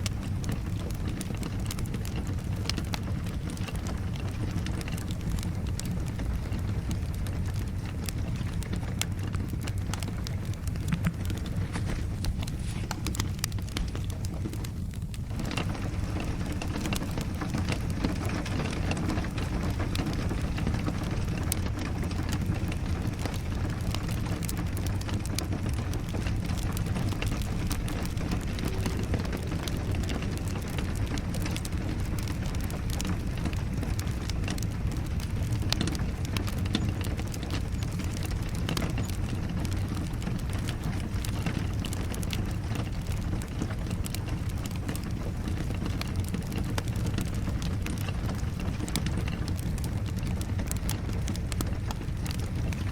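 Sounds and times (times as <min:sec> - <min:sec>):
steady rain: 0:00.0 - 0:52.9
wood fire crackling: 0:00.0 - 0:52.9.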